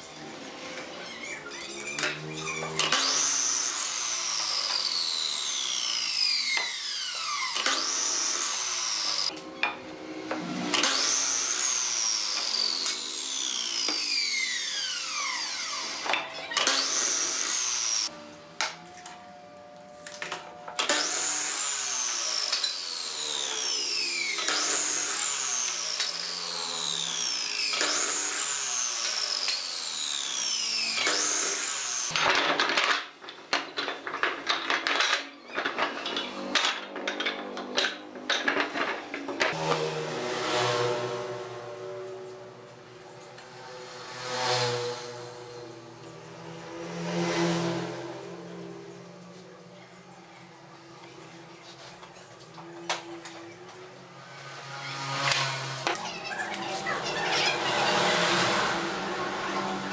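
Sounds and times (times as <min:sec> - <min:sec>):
miter saw cutting wood: 0:00.0 - 0:18.2, 0:20.8 - 0:32.4, 0:35.9 - 0:49.5, 0:50.9 - 0:59.9.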